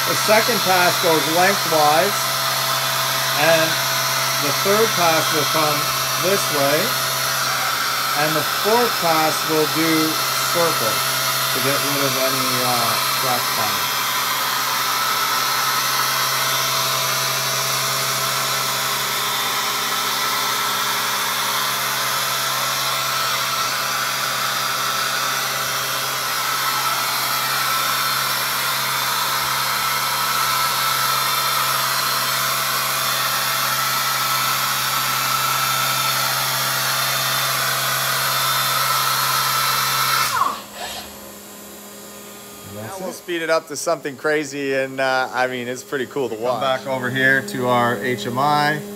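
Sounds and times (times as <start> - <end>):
sander whine: 0.0 - 48.9.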